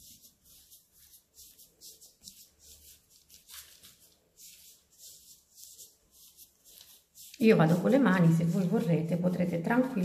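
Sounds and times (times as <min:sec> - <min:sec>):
hands rustling dough on paper: 0:00.0 - 0:10.0.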